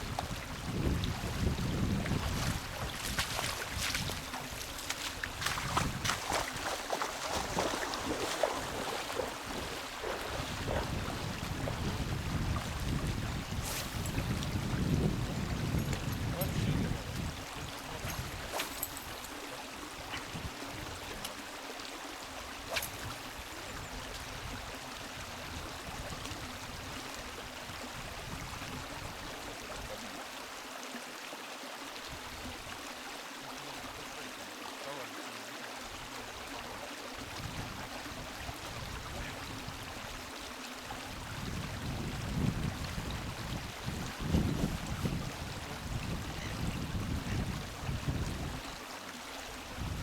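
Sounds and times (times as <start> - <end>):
flowing river water: 0.0 - 50.0.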